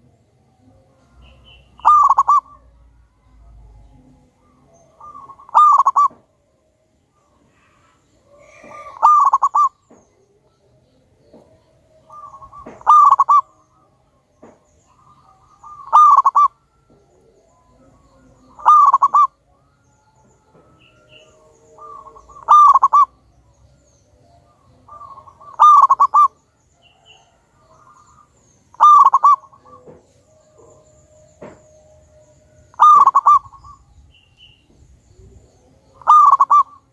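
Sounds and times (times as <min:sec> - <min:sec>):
zebra dove cooing song: 0:00.0 - 0:36.9.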